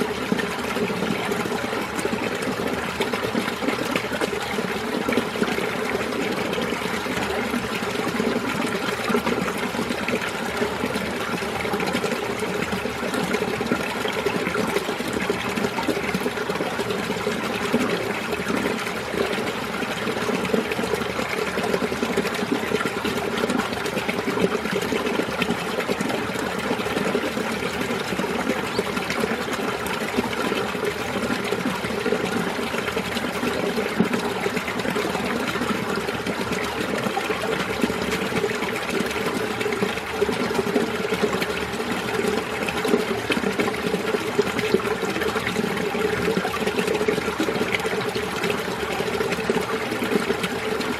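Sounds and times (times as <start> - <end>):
stream flowing over rocks: 0.0 - 50.9.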